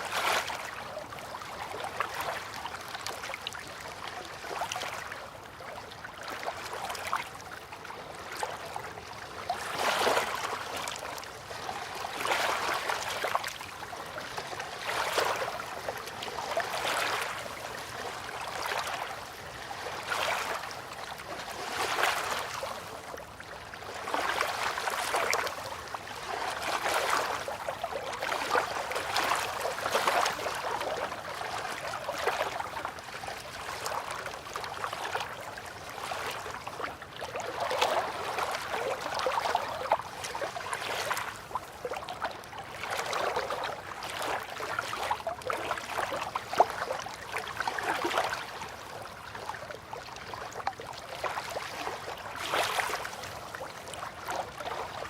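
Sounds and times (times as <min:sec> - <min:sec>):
water lapping at riverbank: 0:00.0 - 0:55.0.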